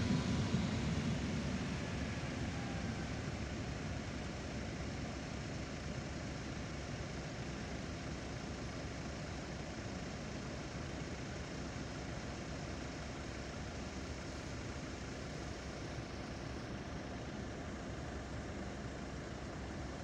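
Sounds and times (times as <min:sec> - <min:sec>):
car engines idling: 0:00.0 - 0:20.0.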